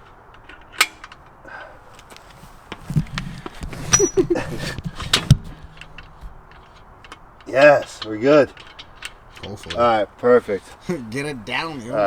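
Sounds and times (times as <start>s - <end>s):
metal bolts clinking and rattling: 0.0s - 12.0s.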